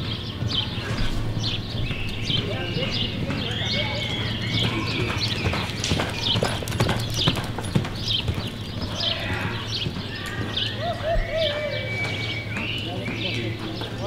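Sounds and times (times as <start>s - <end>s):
hoofbeats on soft dirt: 0.0s - 14.0s.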